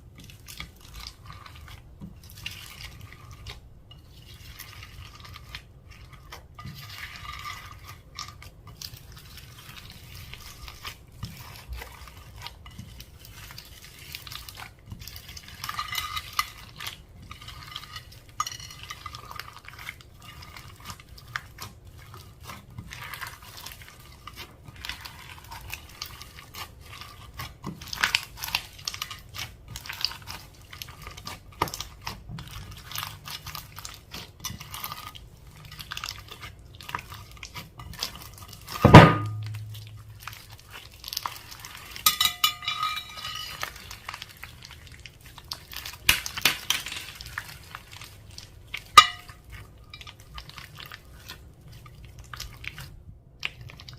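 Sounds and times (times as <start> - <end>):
slime crackling when stirred: 0.0 - 53.9
utensil scraping a bowl: 0.1 - 52.9.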